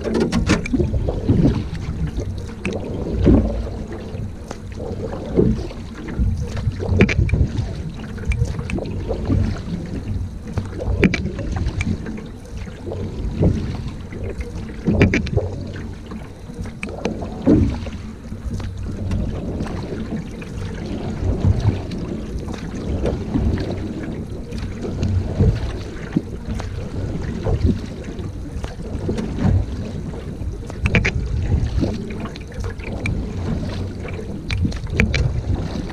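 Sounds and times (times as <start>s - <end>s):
paddle strokes in water: 0.0s - 35.9s
water rushing along hull: 0.0s - 35.9s
wind buffeting microphone: 0.0s - 35.9s.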